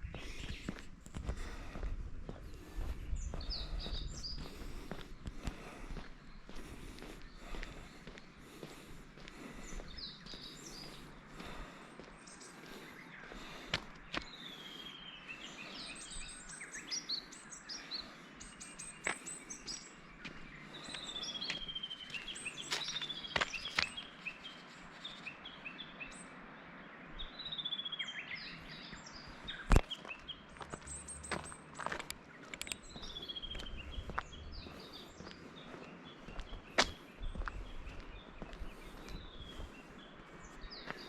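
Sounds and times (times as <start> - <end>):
songbirds singing and calling: 0.0 - 41.0.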